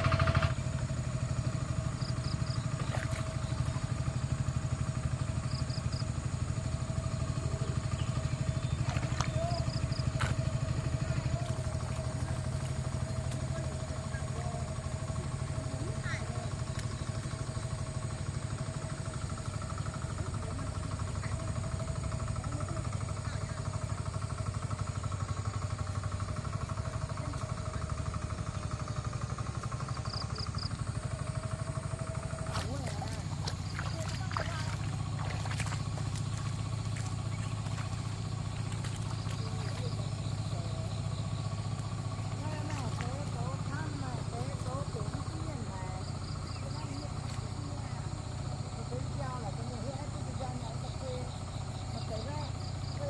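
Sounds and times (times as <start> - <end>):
small engine puttering: 0.0 - 53.0.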